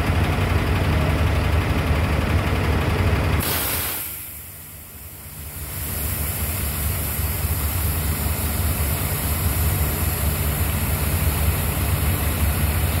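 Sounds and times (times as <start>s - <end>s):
heavy diesel engine drone: 0.0s - 13.0s.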